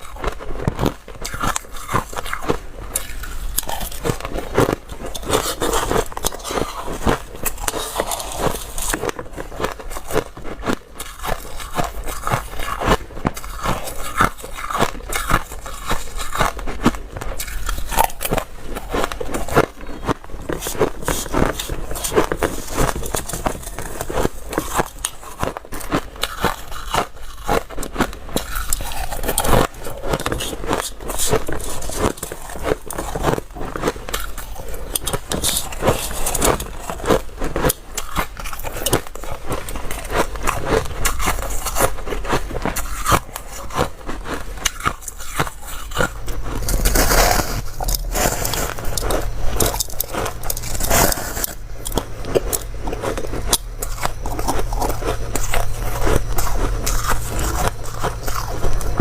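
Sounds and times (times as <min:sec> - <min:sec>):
ice crunching while chewed: 0:00.0 - 0:59.0
low steady hum: 0:00.0 - 0:59.0.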